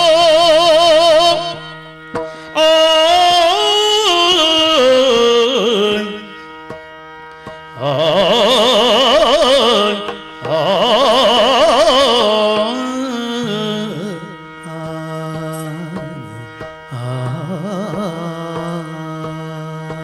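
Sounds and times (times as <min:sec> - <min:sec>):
person singing with vibrato: 0:02.5 - 0:06.6, 0:07.7 - 0:20.0.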